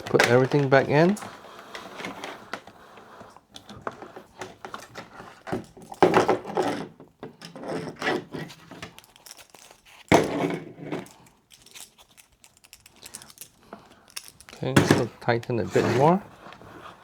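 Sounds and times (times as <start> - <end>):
parts and tools clicking and rattling: 0.0 - 16.2.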